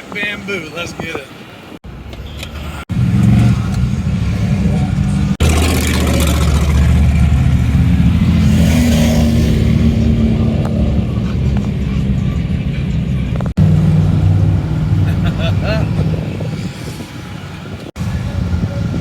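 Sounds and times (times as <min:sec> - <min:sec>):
truck engines revving: 0:00.0 - 0:19.0.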